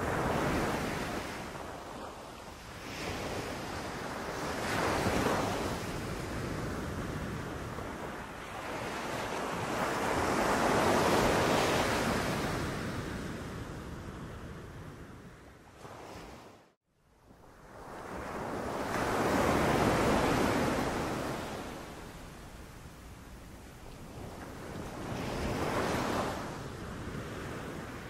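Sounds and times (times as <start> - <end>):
sea waves breaking on beach: 0.0 - 13.6, 17.6 - 22.8, 23.5 - 28.0.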